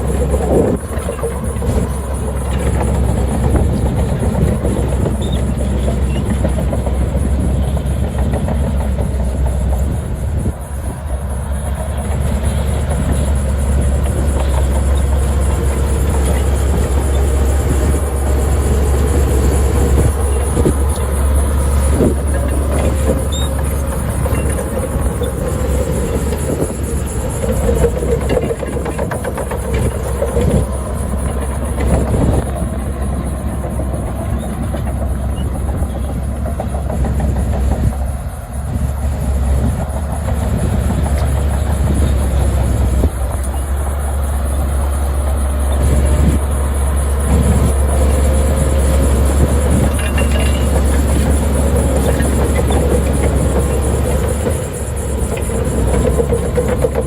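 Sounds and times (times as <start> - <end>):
diesel engines running: 0.0 - 57.0
machinery knocks and clanks: 0.0 - 57.0.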